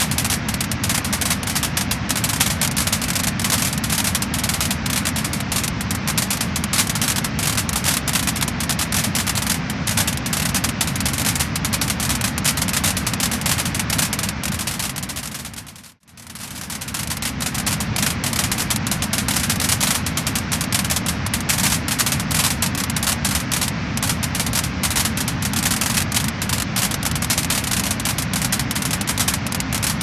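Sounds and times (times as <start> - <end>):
steady hiss: 0.0 - 30.0
wood fire crackling and popping: 0.0 - 30.0.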